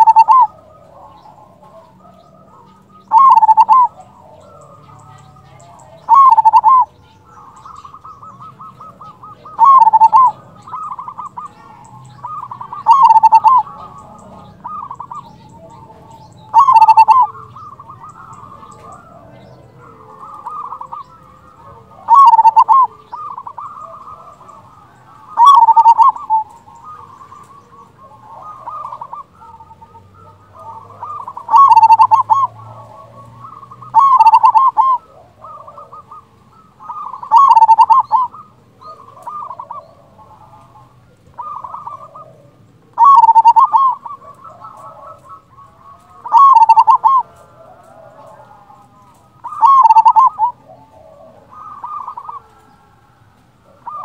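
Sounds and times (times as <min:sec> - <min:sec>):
dove trilled cooing: 0:00.0 - 0:54.0.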